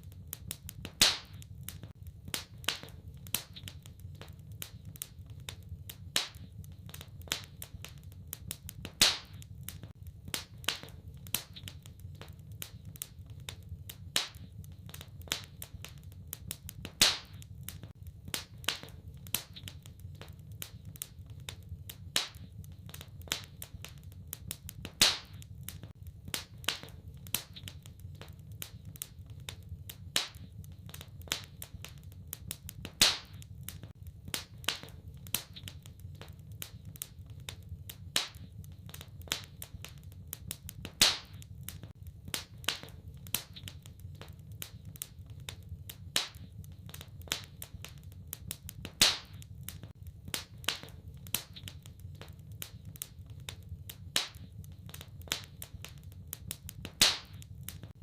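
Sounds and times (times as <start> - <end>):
loud fire pops: 0.0 - 58.0
low fire rumble: 0.0 - 58.0
wood fire crackling: 0.0 - 58.0.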